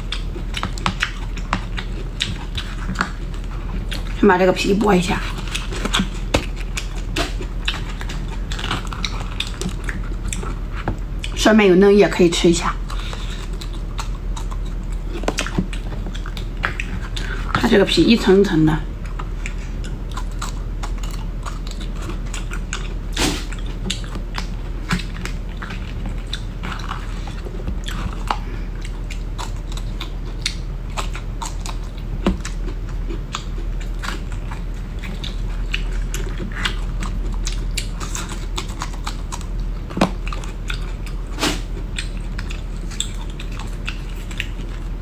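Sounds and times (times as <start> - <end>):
chewing bamboo shoot: 0.0 - 11.4, 12.7 - 17.7, 19.0 - 45.0
steady low hum: 0.0 - 45.0.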